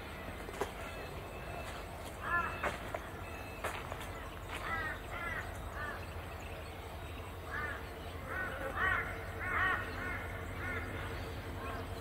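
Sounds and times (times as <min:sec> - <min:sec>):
bird calling: 0:00.0 - 0:12.0.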